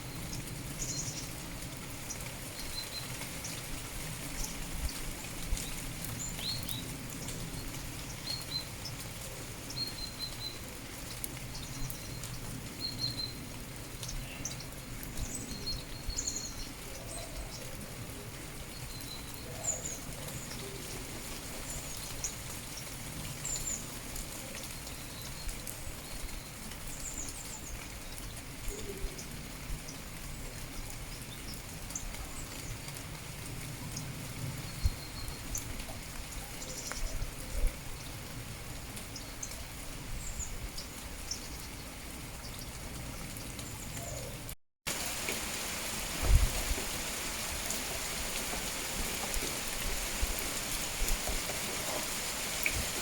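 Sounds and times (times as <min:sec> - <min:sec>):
light rain pattering: 0:00.0 - 0:53.0.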